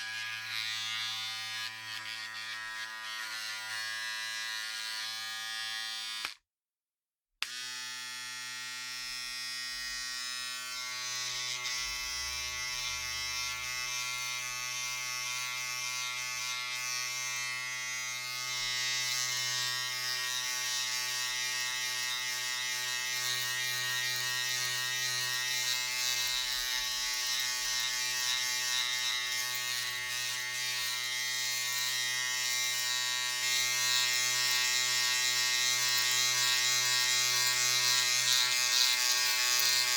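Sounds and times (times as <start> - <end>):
electric razor buzzing: 0.0 - 6.4, 7.4 - 39.9.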